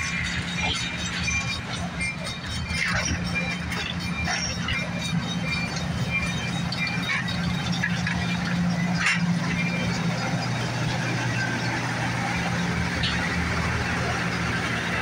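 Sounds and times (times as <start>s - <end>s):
train cars rolling hum: 0.0s - 15.0s.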